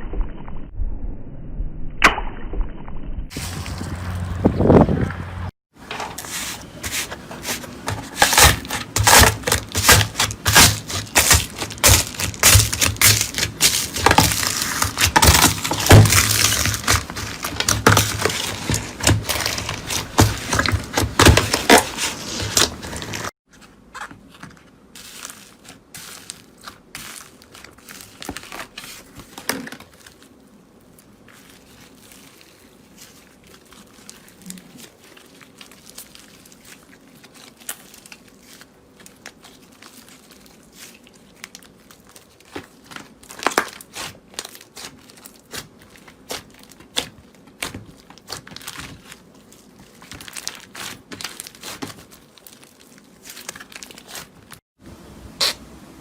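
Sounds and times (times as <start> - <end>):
brittle material crunching: 6.1 - 54.6.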